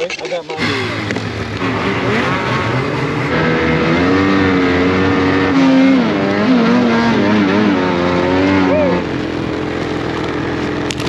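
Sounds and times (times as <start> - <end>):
snowmobile engine running: 0.5 - 11.0.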